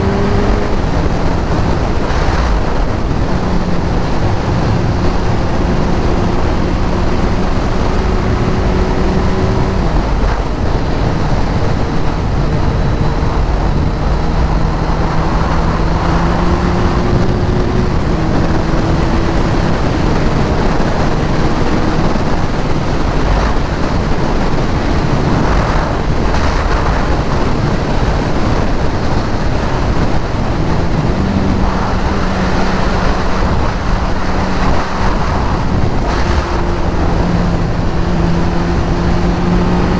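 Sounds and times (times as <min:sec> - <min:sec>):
motorcycle engine drone: 0:00.0 - 0:39.9
wind rush over microphone: 0:00.0 - 0:39.9.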